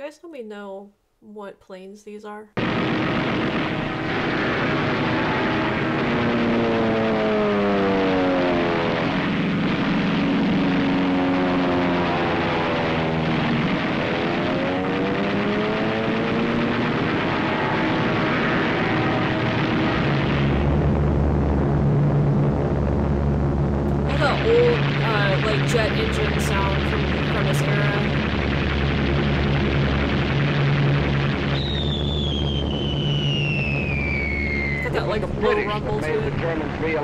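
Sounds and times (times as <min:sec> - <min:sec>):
deep steady hum: 0:02.6 - 0:37.0
propeller aircraft engines droning: 0:03.4 - 0:37.0.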